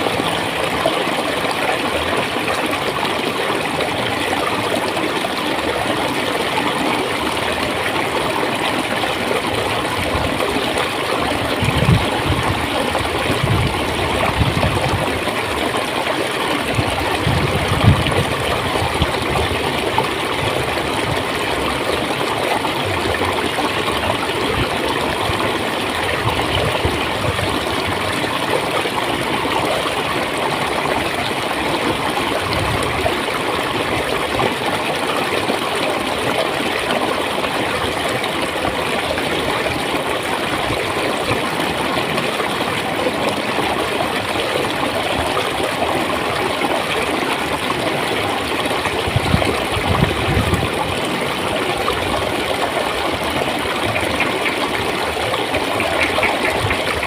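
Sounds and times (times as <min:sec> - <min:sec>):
water flowing and gurgling: 0:00.0 - 0:57.0.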